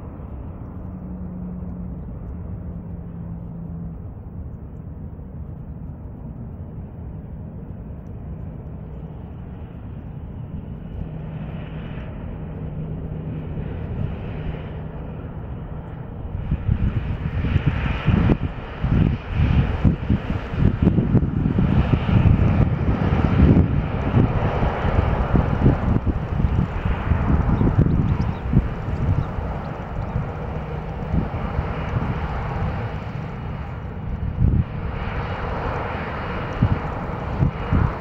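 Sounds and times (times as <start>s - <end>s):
distant airport rumble: 0.0s - 38.0s
wind buffeting microphone: 0.0s - 38.0s.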